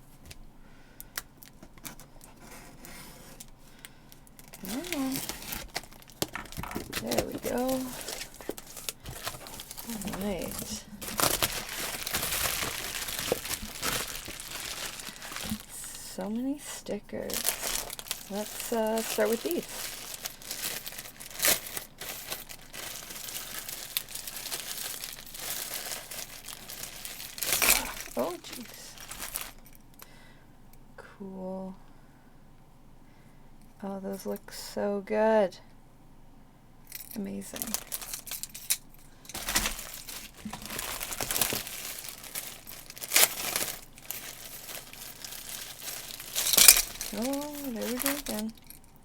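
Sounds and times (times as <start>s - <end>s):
packaging crinkling and rustling: 1.1s - 16.5s, 17.2s - 29.8s, 37.3s - 49.0s.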